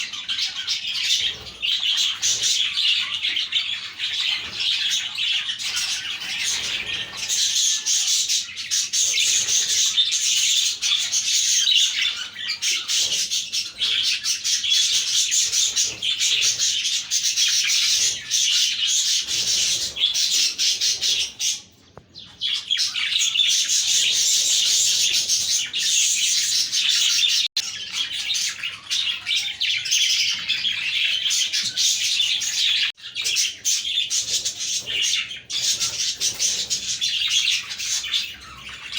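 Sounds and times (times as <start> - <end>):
budgerigars chirping and chattering: 0.0 - 38.9.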